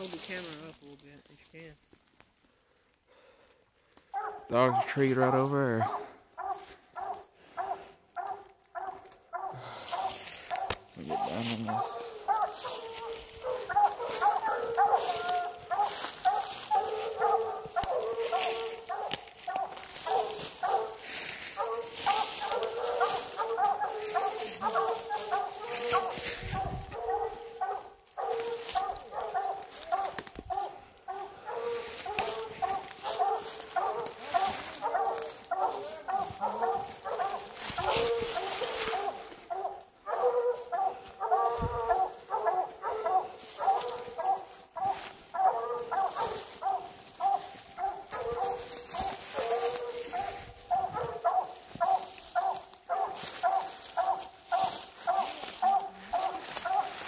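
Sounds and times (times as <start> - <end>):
dogs barking: 4.0 - 57.0.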